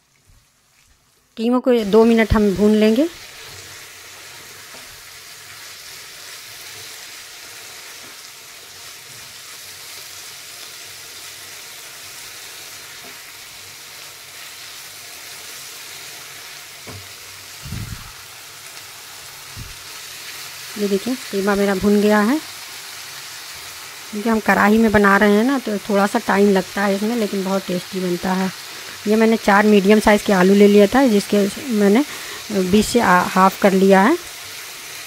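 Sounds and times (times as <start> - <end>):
meat sizzling in hot oil: 0.0 - 35.0.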